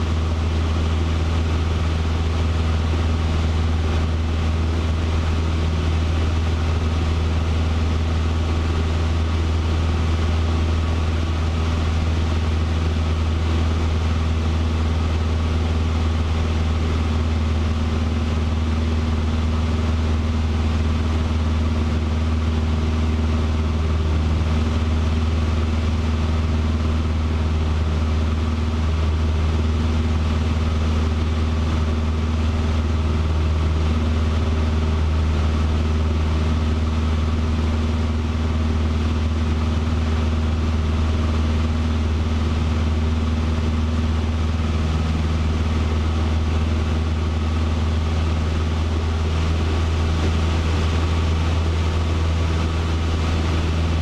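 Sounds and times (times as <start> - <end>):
airplane engine droning: 0.0 - 54.0.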